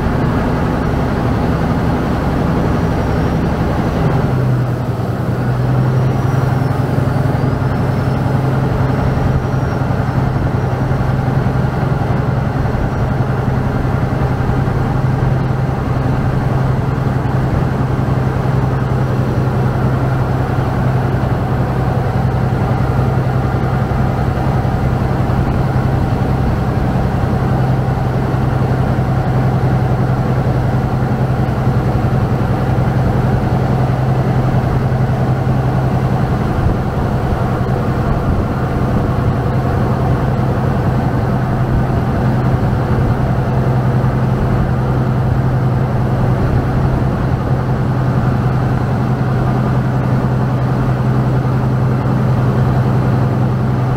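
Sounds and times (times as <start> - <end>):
boat diesel engine droning: 0.0 - 53.9
wake rushing along hull: 0.0 - 53.9.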